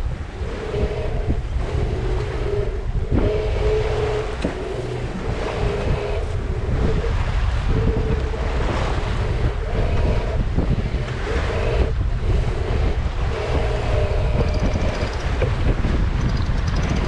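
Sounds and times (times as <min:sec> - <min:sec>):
hum: 0:00.0 - 0:17.0
water rushing along a hull: 0:00.0 - 0:17.0
wind buffeting microphone: 0:00.0 - 0:17.0.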